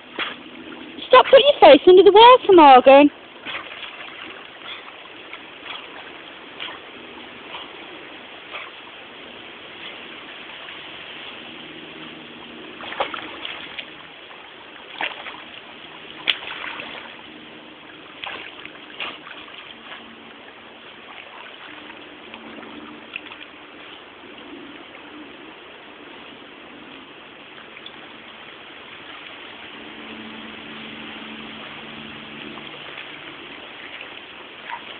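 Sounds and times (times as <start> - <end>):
dog splashing in water: 0.0 - 24.7, 28.7 - 34.9
running water: 0.0 - 34.9.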